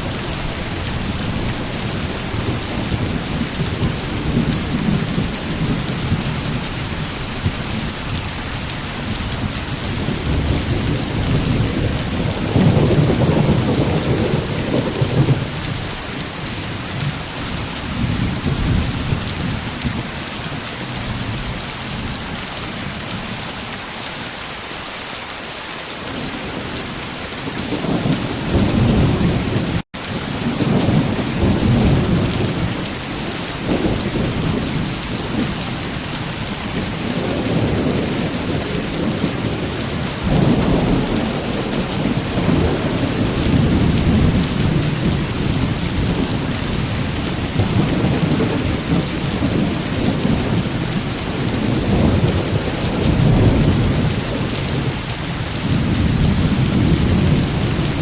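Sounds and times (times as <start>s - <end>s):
thunder rumbling: 0.0s - 20.1s, 26.1s - 58.0s
heavy rain pouring: 0.0s - 58.0s.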